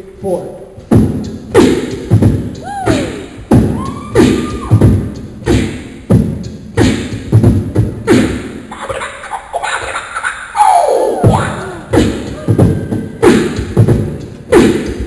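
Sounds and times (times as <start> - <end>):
man beatboxing into a microphone: 0.0 - 15.0.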